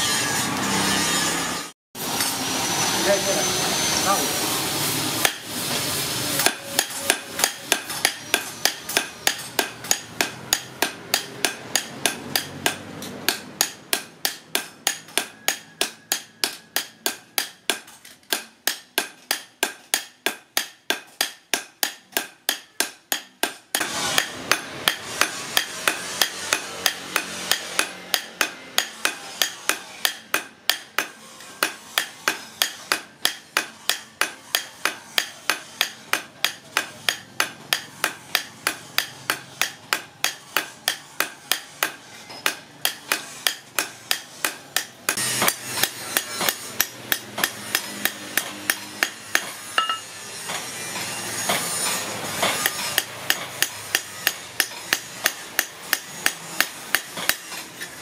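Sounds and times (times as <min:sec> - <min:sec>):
hammer striking steel on anvil: 0:02.0 - 0:58.0.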